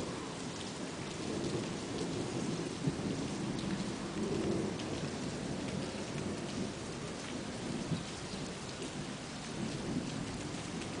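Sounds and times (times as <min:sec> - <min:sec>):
steady rain falling: 0:00.0 - 0:11.0
low thunder rumble: 0:00.8 - 0:11.0.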